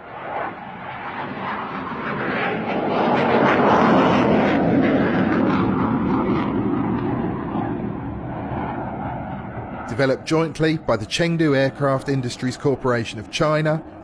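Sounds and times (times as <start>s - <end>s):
fighter jet passing low: 0.0s - 14.0s.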